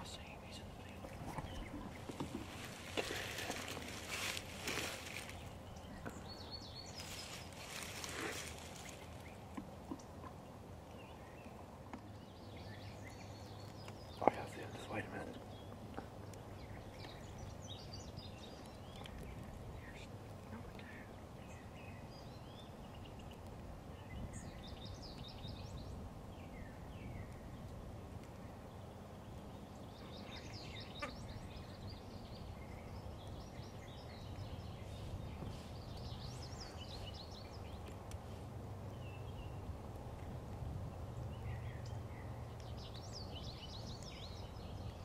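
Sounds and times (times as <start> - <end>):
songbirds chirping and trilling: 0.0 - 45.0.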